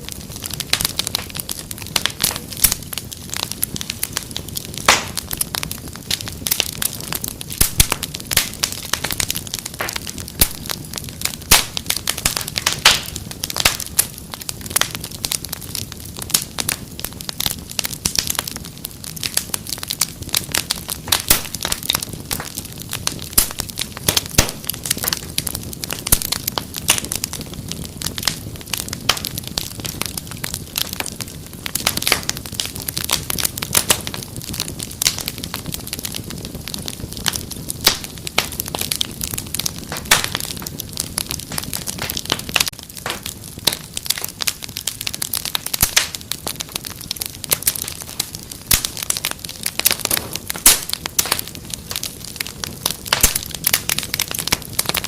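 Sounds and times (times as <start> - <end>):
low rumble of flame: 0.0 - 55.0
wood fire crackling: 0.0 - 55.0.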